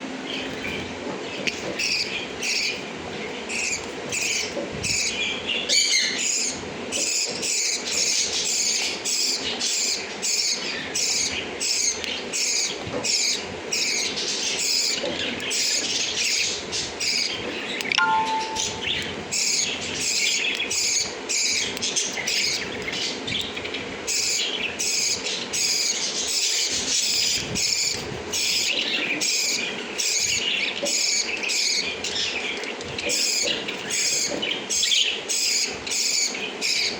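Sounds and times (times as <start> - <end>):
lovebirds chattering: 0.3 - 36.9.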